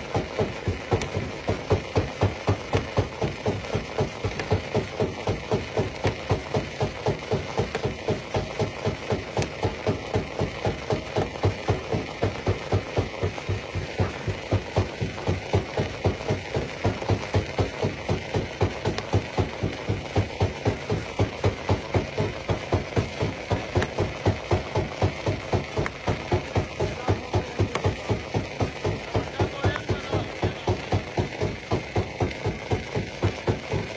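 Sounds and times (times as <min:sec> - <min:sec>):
stone crusher machinery thumping: 0:00.0 - 0:33.9.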